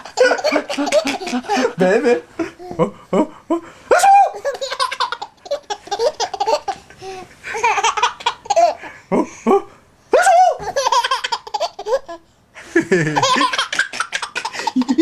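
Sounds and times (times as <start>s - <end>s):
baby belly laughing: 0.0s - 3.4s, 4.0s - 9.6s, 10.2s - 12.2s, 12.9s - 15.0s.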